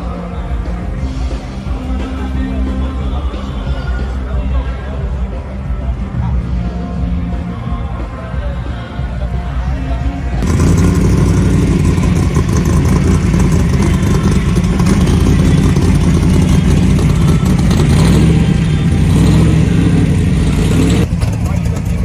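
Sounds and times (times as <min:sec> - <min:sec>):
car engine running loudly: 0:00.0 - 0:22.0.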